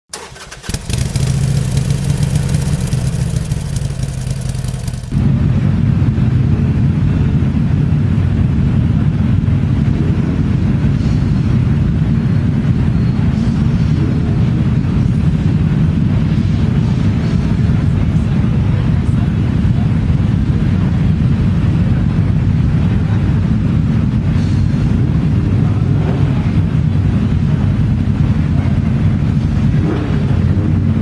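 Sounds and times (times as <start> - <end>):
motorcycle engines rumbling: 0.1 - 31.0.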